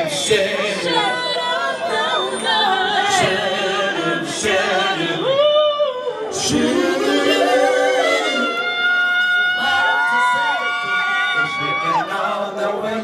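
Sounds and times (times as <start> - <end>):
voices singing a cappella: 0.0 - 13.0.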